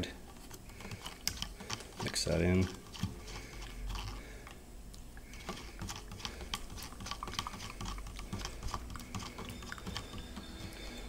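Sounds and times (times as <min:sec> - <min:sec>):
spoon stirring in plastic cup: 0:00.3 - 0:04.6, 0:05.3 - 0:11.0.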